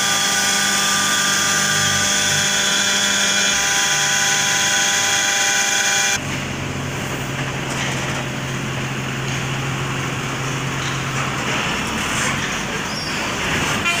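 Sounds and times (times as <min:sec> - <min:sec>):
hydraulic pump whining: 0:00.0 - 0:13.9
machinery rumble: 0:00.0 - 0:14.0.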